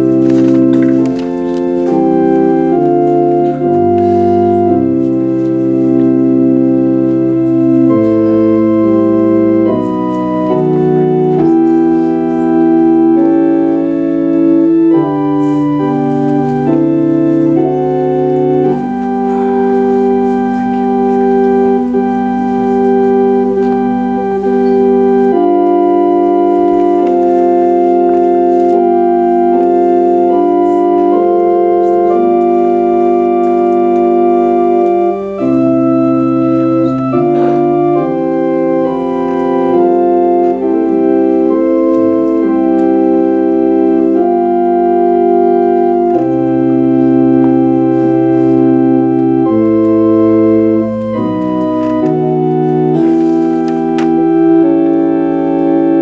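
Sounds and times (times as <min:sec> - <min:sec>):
deep bass organ note: 0:00.0 - 0:56.0
organ chords: 0:00.0 - 0:56.0.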